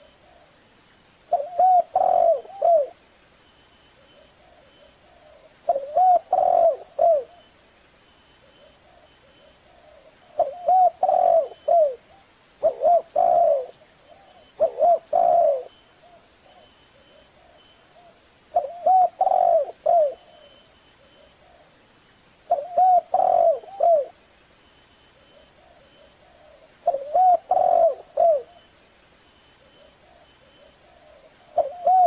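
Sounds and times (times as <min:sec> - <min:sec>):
dove cooing: 0:01.3 - 0:03.0, 0:04.0 - 0:07.5, 0:08.4 - 0:21.8, 0:22.5 - 0:24.2, 0:25.2 - 0:28.7, 0:29.6 - 0:32.0.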